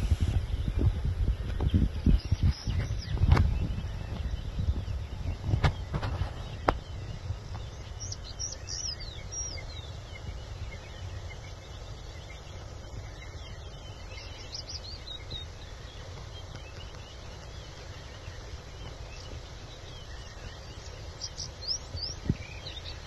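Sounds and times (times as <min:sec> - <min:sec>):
high downward-sliding bird chirps: 0:00.0 - 0:23.0
steady low rumble: 0:00.0 - 0:23.0.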